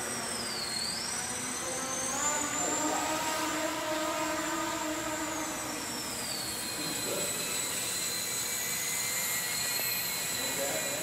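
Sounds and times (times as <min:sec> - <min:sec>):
model aircraft motor whining: 0:00.0 - 0:11.0.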